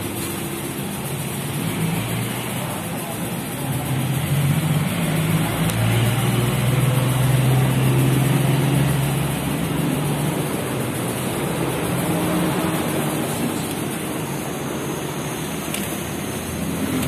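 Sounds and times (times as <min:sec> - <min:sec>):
engine idling: 0:00.0 - 0:17.0
rushing background noise: 0:00.0 - 0:17.0.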